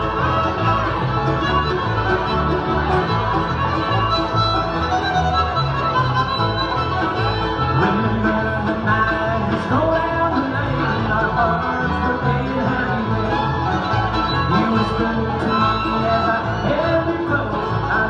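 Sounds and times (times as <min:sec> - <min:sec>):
fiddle playing tune: 0:00.0 - 0:18.0
guitar: 0:00.0 - 0:18.0
rhythmic bass line: 0:00.0 - 0:18.0.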